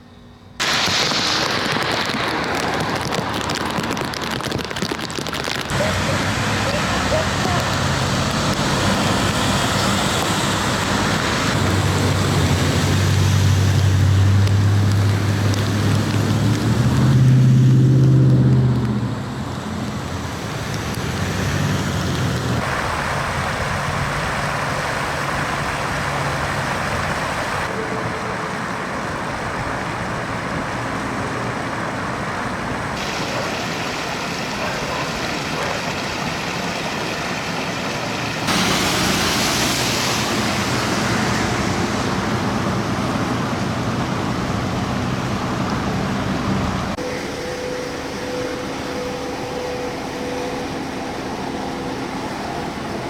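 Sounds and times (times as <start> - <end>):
low engine hum: 0.0 - 53.0
traffic on wet streets: 0.1 - 53.0
rain: 0.6 - 53.0.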